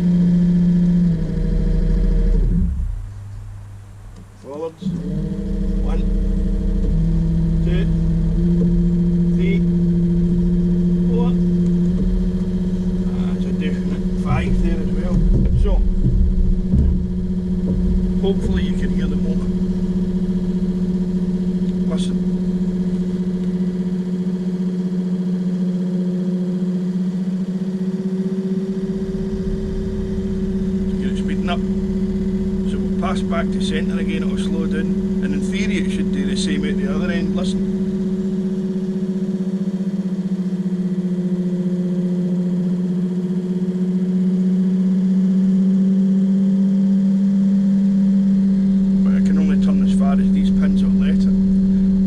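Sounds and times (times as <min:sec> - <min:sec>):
electric motor hum: 0:00.0 - 0:52.0.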